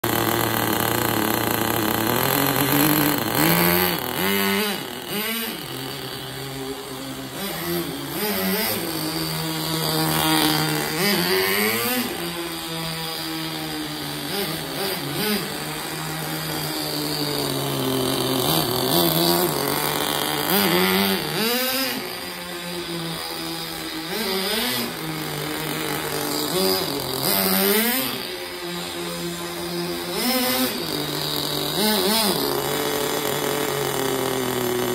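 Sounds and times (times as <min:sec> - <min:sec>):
rc car engine revving: 0:00.0 - 0:34.9.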